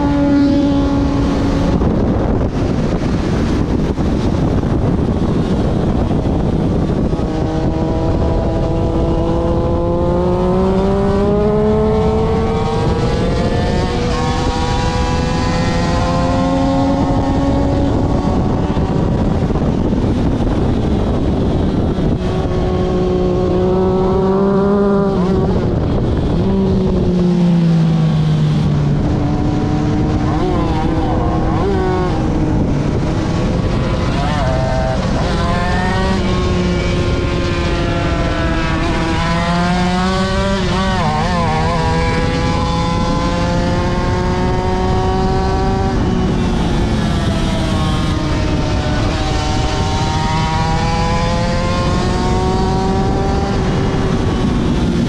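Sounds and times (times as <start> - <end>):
racing motorcycle engine revving: 0.0 - 55.0
steady rushing noise: 0.0 - 55.0.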